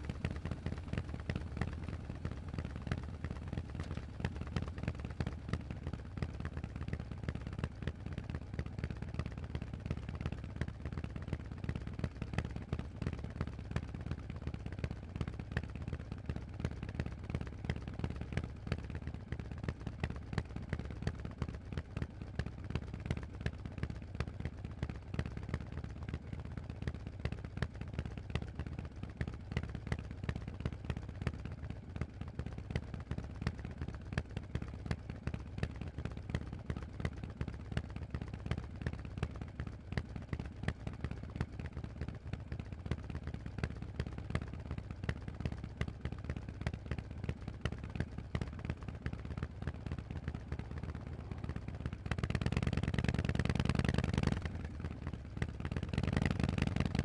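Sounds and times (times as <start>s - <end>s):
motorcycle exhaust pulses: 0.0s - 57.0s.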